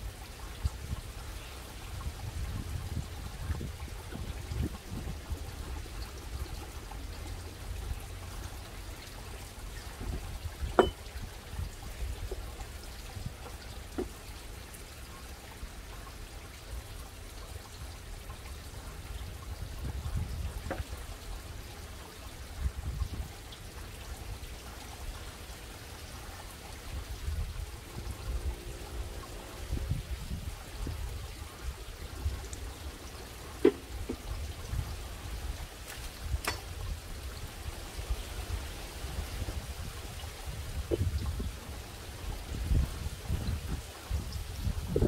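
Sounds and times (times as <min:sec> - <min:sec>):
water trickling and splashing: 0:00.0 - 0:45.0.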